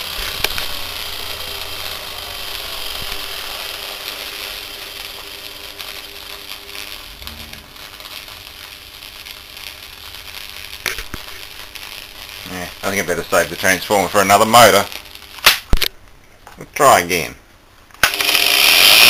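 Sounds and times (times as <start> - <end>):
motor sparking rattling hiss: 0.0 - 15.9.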